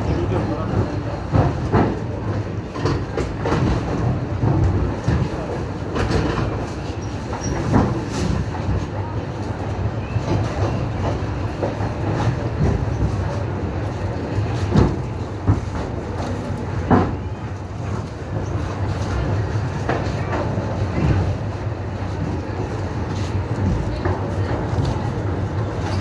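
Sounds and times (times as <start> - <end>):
low train rumble: 0.0 - 26.0
train wheels clacking: 0.0 - 26.0.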